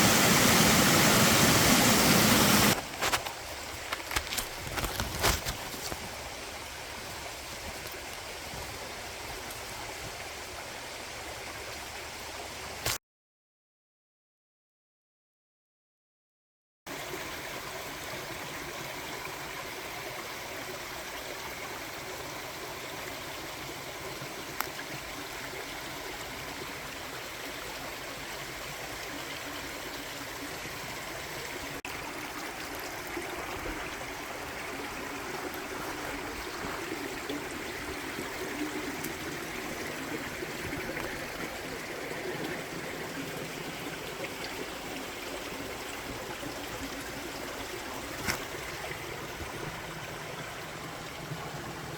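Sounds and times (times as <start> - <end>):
stream running: 0.0 - 13.0, 16.9 - 51.9.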